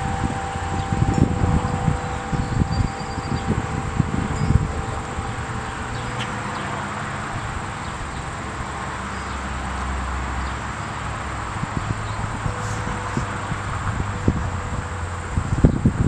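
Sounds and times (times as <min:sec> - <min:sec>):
low hum: 0:00.0 - 0:16.0
outdoor background hiss: 0:00.0 - 0:16.0
wind chime ringing: 0:00.0 - 0:16.0.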